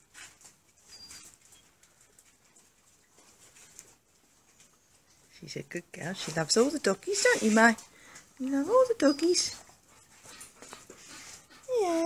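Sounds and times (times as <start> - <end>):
soft rustles: 0.0 - 12.0.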